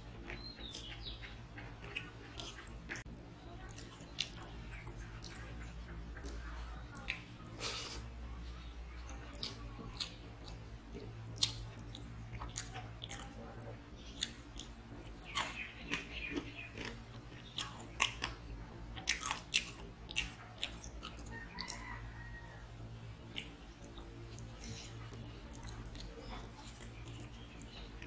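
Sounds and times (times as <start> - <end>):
person chewing food: 0.0 - 28.0
steady low hum: 0.0 - 28.0.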